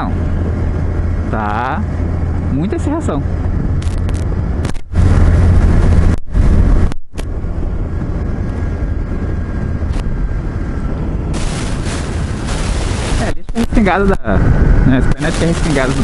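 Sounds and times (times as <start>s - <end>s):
motorcycle road noise on wet road: 0.0s - 16.0s
wind rushing over microphone: 0.0s - 16.0s.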